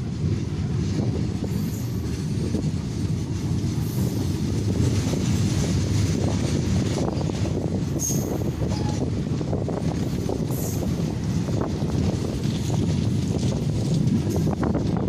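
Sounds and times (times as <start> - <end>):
train wheels rumbling on track: 0.0 - 15.0
wind noise: 0.0 - 15.0.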